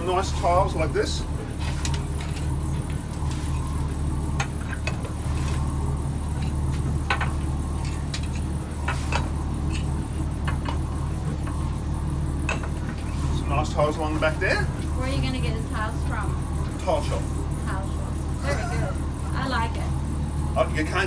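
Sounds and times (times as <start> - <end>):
low motor hum: 0.0 - 21.0.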